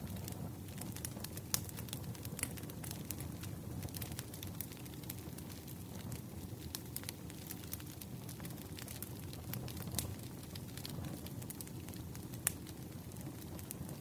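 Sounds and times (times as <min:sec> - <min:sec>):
fire low rumble: 0:00.0 - 0:14.0
wood fire pops and snaps: 0:00.0 - 0:14.0.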